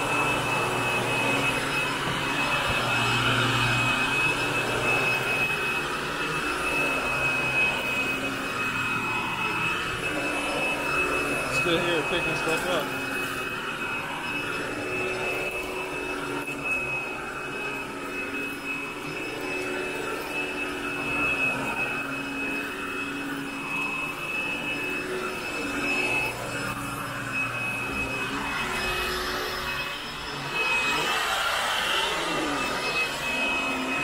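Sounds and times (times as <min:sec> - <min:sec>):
vacuum cleaner motor whine: 0:00.0 - 0:34.0.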